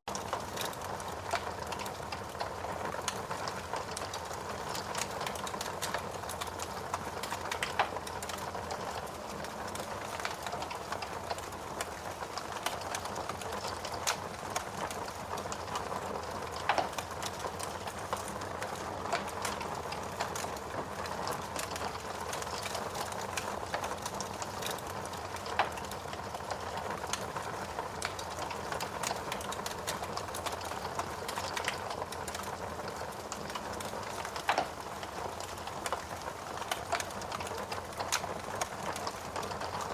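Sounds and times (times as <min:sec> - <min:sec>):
steady rain hiss: 0:00.1 - 0:39.9
wood fire crackling and popping: 0:00.1 - 0:39.9.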